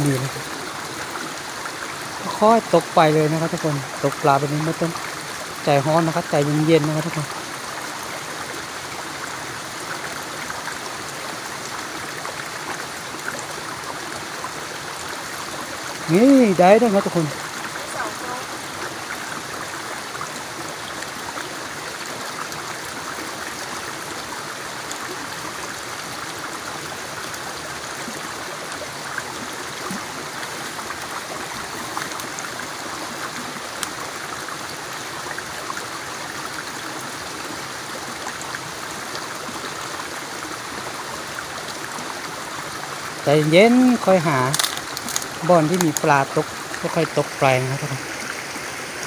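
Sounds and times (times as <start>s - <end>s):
stream flowing over rocks: 0.0s - 49.0s.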